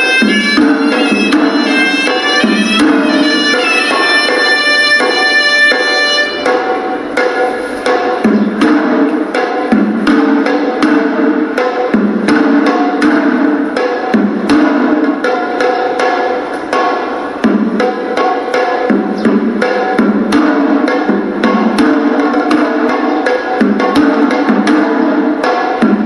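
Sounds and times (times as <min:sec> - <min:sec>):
fast dense drumming: 0:00.0 - 0:26.0
shawm melody: 0:00.0 - 0:26.0.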